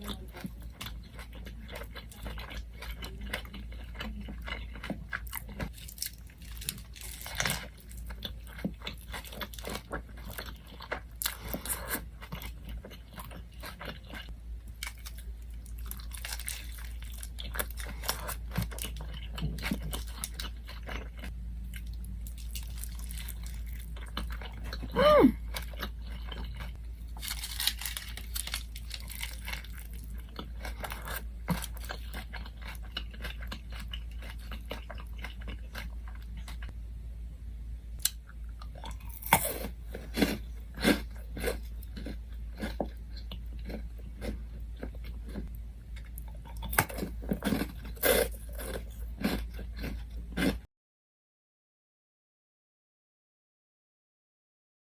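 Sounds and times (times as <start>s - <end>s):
crunchy chewing close up: 0.0s - 36.8s, 38.0s - 50.7s.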